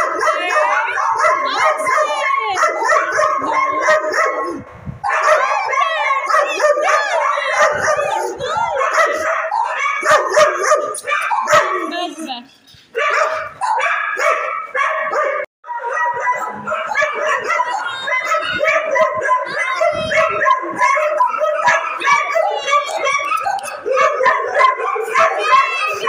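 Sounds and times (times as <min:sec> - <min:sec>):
dogs barking and yipping: 0:00.0 - 0:26.0.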